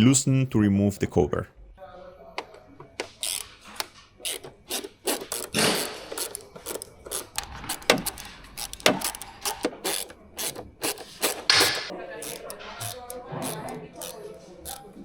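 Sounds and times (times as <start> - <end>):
hand tools clicking and scraping plastic: 2.4 - 15.0.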